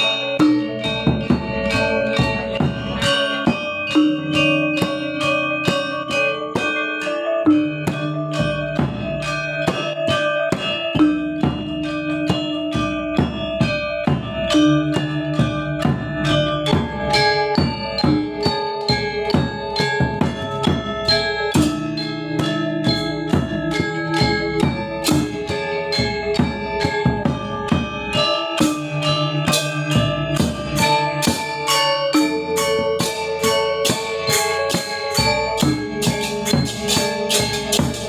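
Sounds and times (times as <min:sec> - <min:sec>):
gamelan gongs and metallophones: 0:00.0 - 0:38.0.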